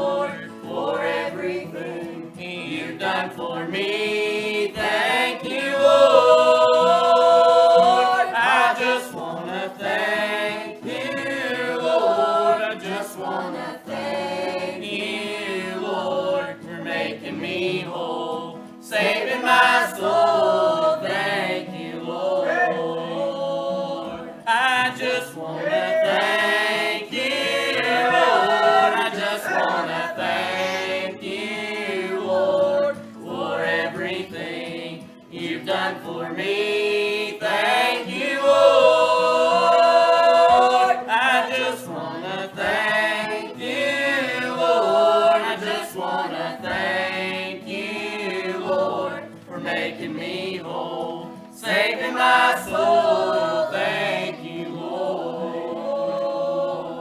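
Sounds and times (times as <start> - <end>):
group singing in harmony: 0.0 - 57.0.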